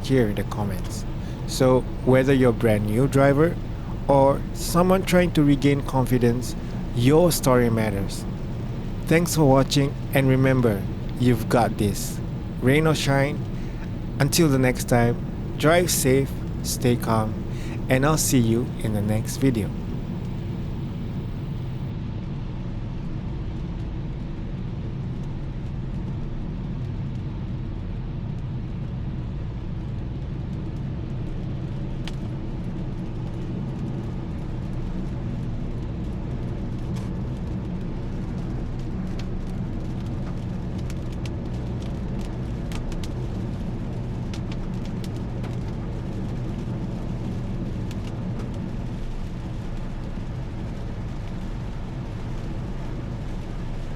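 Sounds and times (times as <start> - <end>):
car road and engine rumble: 0.0 - 21.9, 31.8 - 53.9.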